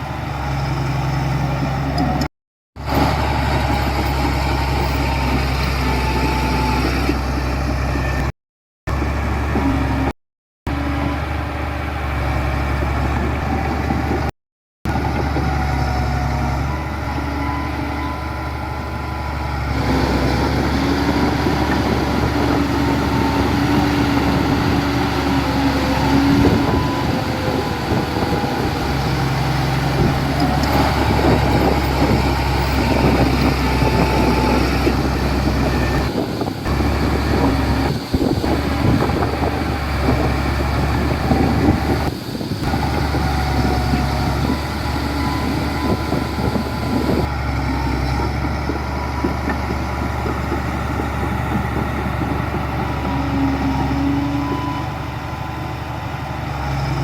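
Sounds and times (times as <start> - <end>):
diesel machinery engine hum: 0.0 - 8.3, 8.9 - 10.1, 10.7 - 14.3, 14.9 - 57.0.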